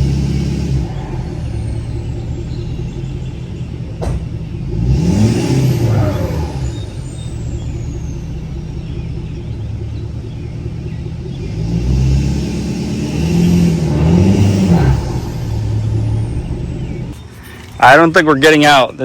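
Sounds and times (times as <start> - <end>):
diesel engine straining: 0.0 - 19.0.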